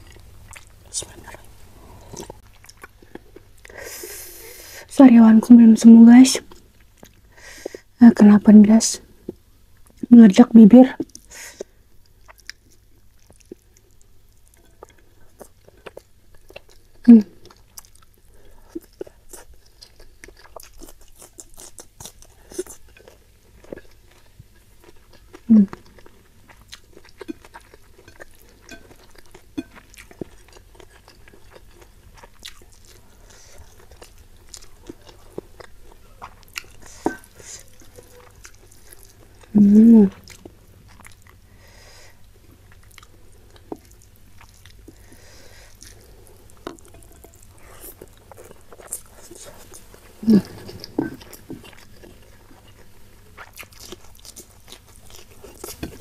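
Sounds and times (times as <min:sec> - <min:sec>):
soft chewing with crunches: 0:00.0 - 0:05.8, 0:06.4 - 0:07.9, 0:10.9 - 0:56.0.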